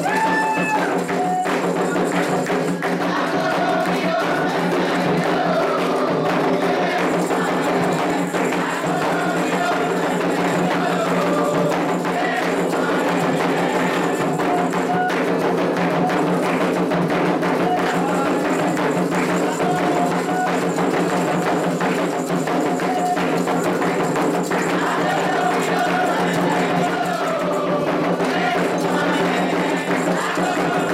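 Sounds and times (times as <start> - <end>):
voices chanting: 0.0 - 16.5, 17.5 - 30.9
hand drums playing rhythm: 0.0 - 30.9.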